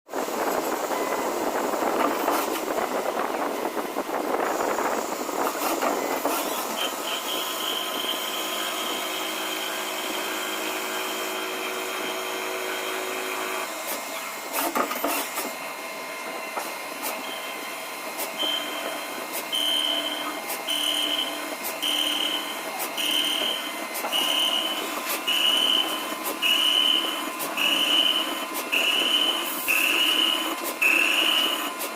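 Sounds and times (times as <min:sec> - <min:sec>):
cnc machine machining: 0:00.1 - 0:31.9
machine high whine: 0:00.1 - 0:31.9.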